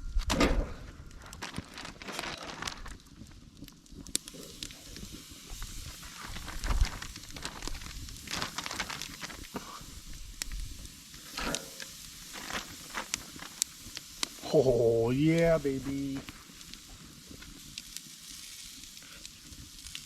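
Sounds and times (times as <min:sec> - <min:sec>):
sharp snaps of fire: 0:00.1 - 0:20.0
campfire crackling: 0:00.2 - 0:20.0.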